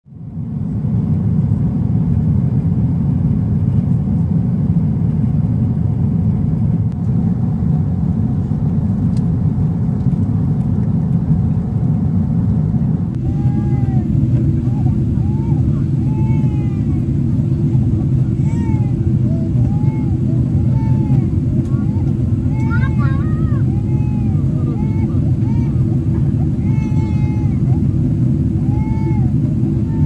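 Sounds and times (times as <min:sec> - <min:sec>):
airliner low roar: 0:00.1 - 0:30.0.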